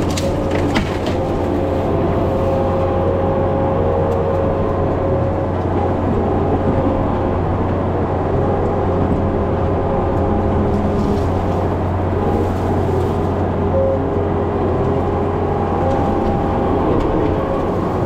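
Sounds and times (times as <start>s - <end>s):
diesel engine droning under load: 0.0s - 18.0s.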